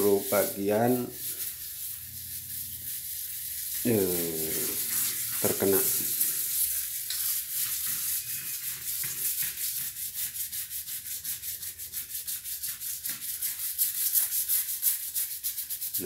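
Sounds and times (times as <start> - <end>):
scrub brush scrubbing wet tiles: 0.0 - 16.0.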